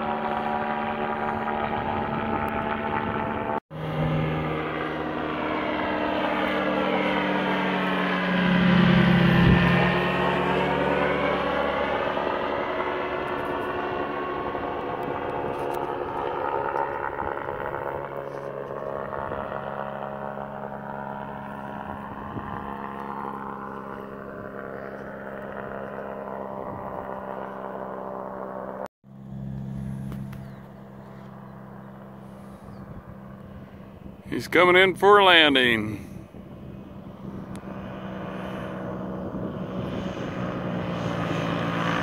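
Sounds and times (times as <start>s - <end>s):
ultralight plane engine droning: 0.0s - 42.0s.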